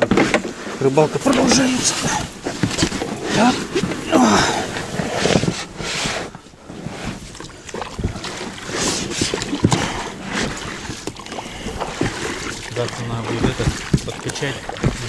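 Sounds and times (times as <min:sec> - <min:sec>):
oars splashing through water: 0:00.0 - 0:15.0.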